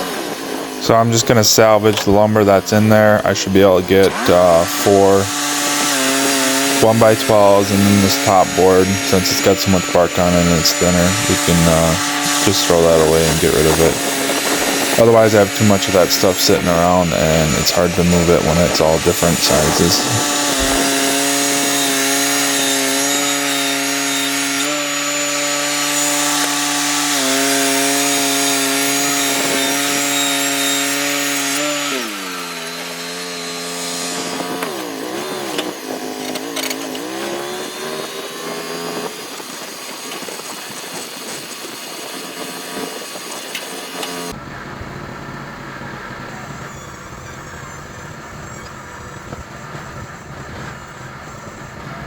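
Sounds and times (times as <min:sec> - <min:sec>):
saw cutting hiss: 0:00.0 - 0:44.3
sawmill engine running: 0:00.0 - 0:52.0.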